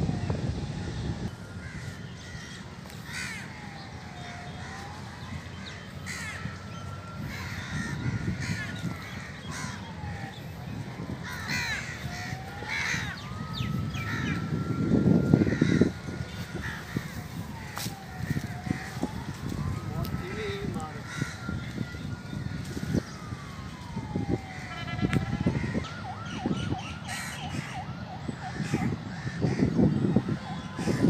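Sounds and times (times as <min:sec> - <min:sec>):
low rumbling noise: 0:00.0 - 0:25.8
crows cawing: 0:01.5 - 0:23.2, 0:24.3 - 0:27.8, 0:28.4 - 0:30.0, 0:30.6 - 0:31.0.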